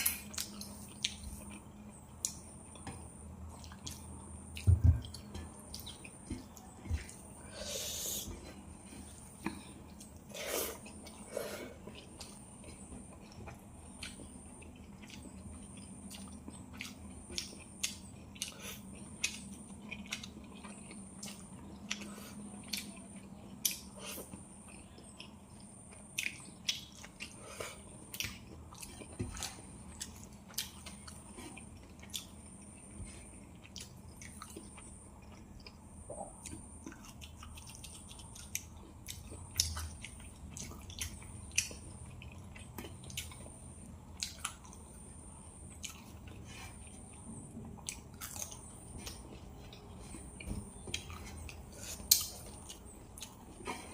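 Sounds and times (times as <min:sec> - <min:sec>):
person chewing wetly: 0:00.0 - 0:07.4, 0:08.2 - 0:53.9.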